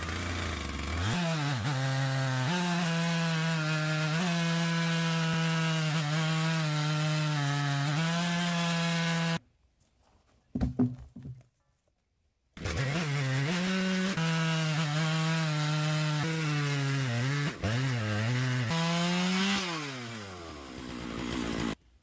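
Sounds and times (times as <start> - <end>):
chainsaw cutting log: 0.0 - 9.4, 12.6 - 21.8.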